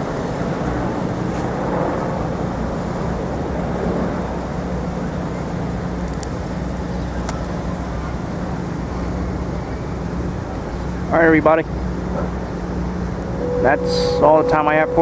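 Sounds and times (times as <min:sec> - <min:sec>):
low engine hum: 0:00.0 - 0:15.0
street traffic rumble: 0:00.0 - 0:15.0.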